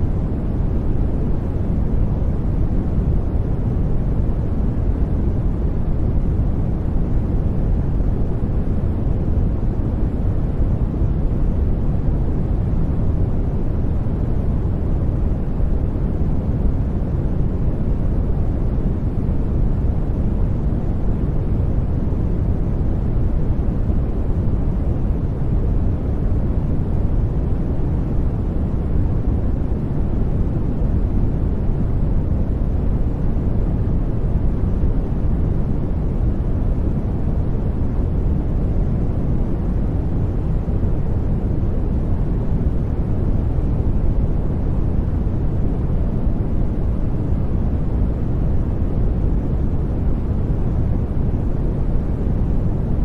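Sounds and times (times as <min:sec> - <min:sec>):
deep white noise rumble: 0:00.0 - 0:53.0.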